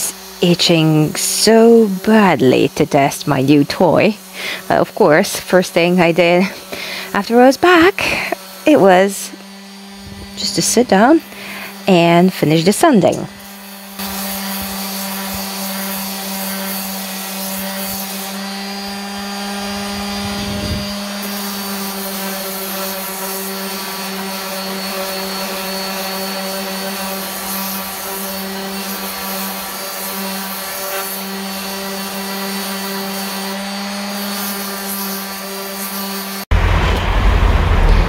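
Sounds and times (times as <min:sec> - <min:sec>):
electric sander whirring: 0:00.0 - 0:38.0.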